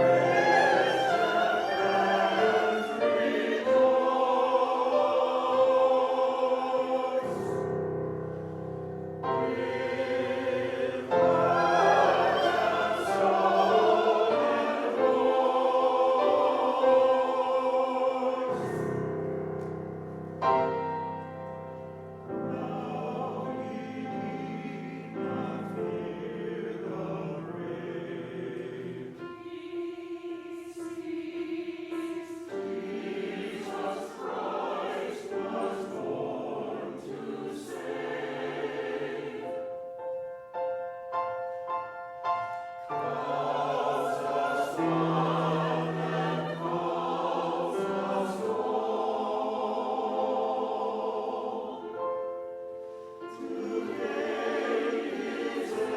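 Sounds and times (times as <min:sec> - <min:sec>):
choir singing: 0:00.0 - 0:55.9.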